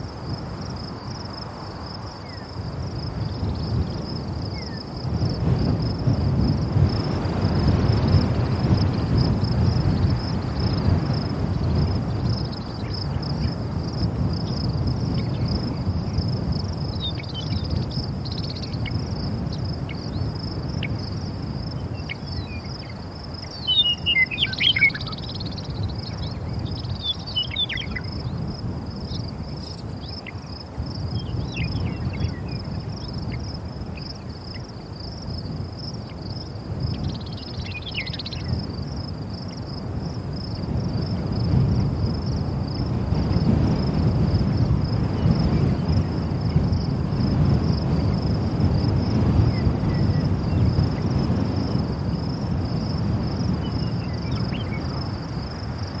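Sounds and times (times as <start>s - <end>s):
high insect trill: 0.0s - 56.0s
wind gusting against microphone: 0.0s - 56.0s.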